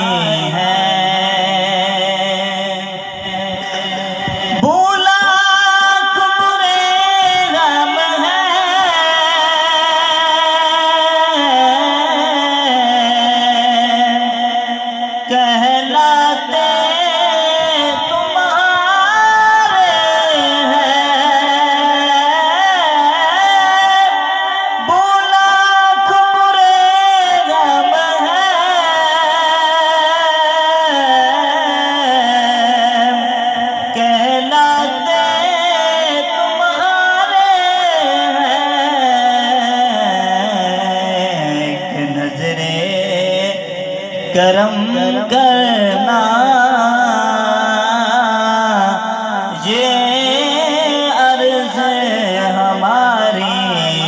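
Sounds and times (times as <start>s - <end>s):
man singing through microphone: 0.0s - 54.0s.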